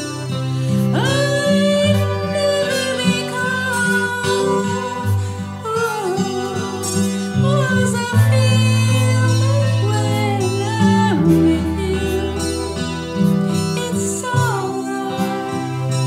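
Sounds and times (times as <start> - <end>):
acoustic guitar: 0.0 - 16.0
woman singing: 0.0 - 16.0.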